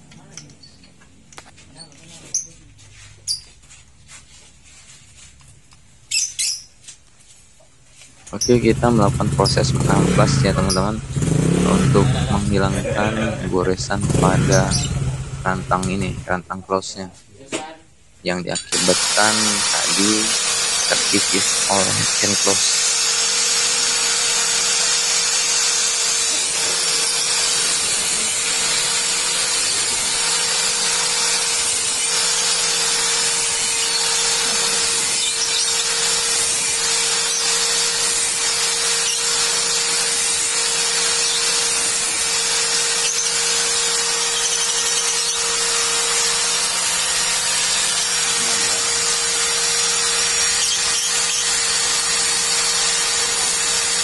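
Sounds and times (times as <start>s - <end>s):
angle grinder grinding metal: 8.3s - 16.9s, 18.3s - 54.0s.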